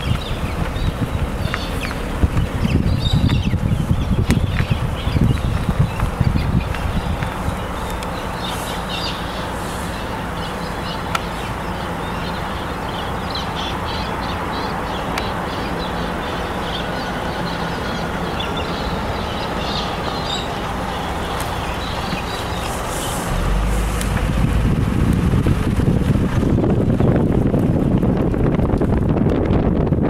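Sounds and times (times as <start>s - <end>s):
birds chirping: 0.0s - 25.8s
car engine drone: 0.0s - 30.0s.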